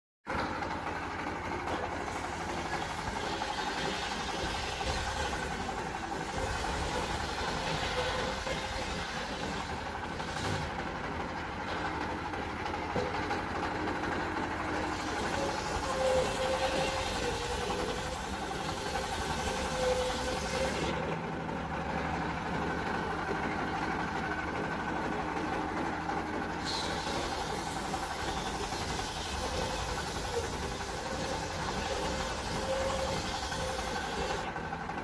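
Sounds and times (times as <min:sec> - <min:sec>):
circular saw running: 0:00.3 - 0:35.0.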